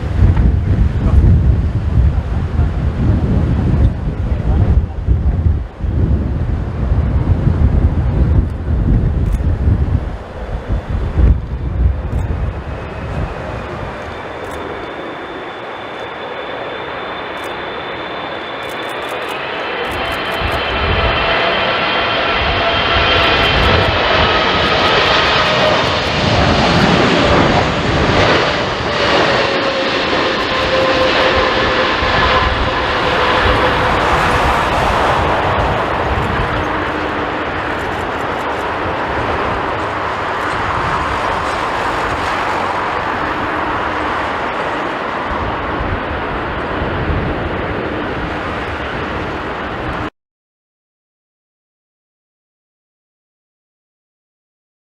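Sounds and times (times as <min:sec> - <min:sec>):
wind buffeting microphone: 0:00.0 - 0:18.9, 0:19.6 - 0:50.1
jet airliner passing: 0:00.0 - 0:50.1.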